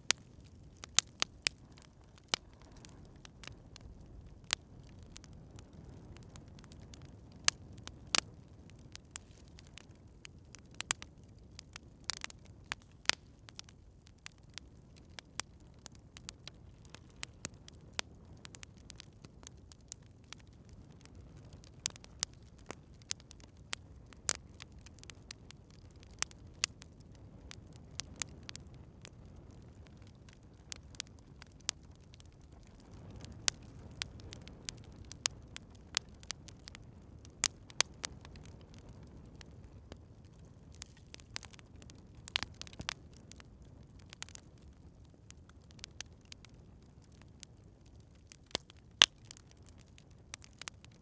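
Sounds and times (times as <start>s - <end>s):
campfire crackling and popping: 0.0s - 51.0s.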